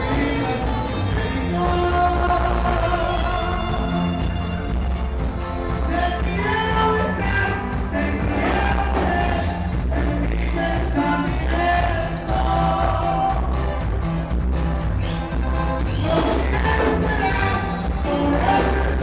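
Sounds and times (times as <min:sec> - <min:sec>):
person singing: 0:00.0 - 0:04.7, 0:05.6 - 0:14.0, 0:15.4 - 0:19.0
loud amplified band music: 0:00.0 - 0:19.0.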